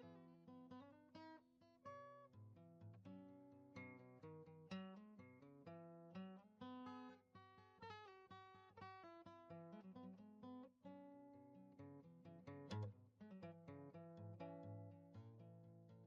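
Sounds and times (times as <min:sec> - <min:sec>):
acoustic guitar picking a melody: 0:00.0 - 0:16.0.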